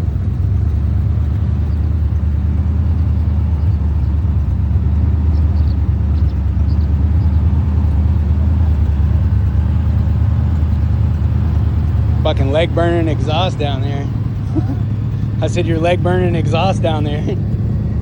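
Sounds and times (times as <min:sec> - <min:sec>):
car engine idling deep burble: 0:00.0 - 0:18.0.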